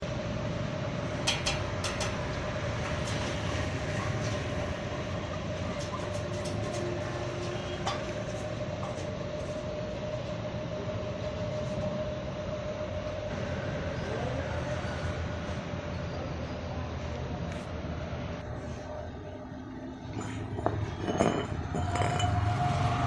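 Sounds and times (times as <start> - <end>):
constant hum: 0.0 - 23.0.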